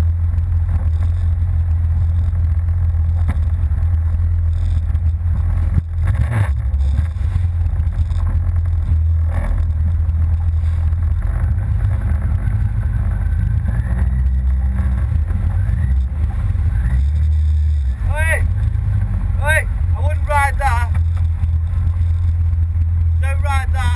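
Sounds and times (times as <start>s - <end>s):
watercraft engine running: 0.0s - 23.9s.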